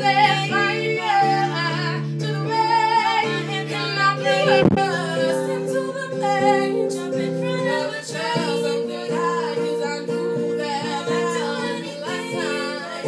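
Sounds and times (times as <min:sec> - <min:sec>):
guitar accompaniment: 0:00.0 - 0:13.0
women singing a pop ballad: 0:00.0 - 0:13.0.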